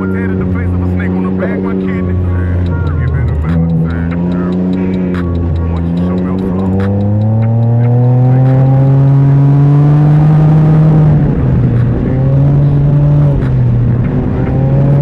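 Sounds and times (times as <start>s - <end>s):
three-wheeler engine running: 0.0s - 15.0s.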